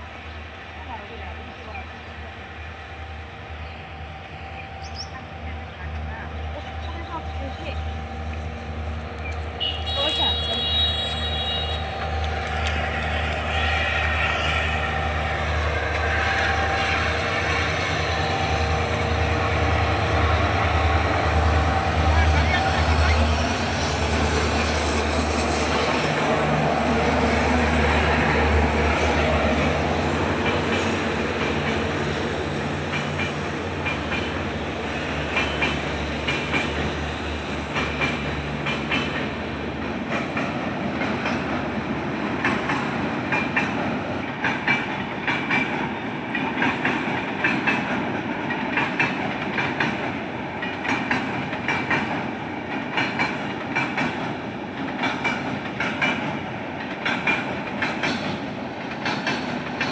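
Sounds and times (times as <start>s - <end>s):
train wheels clicking over rail joints: 6.8s - 59.9s.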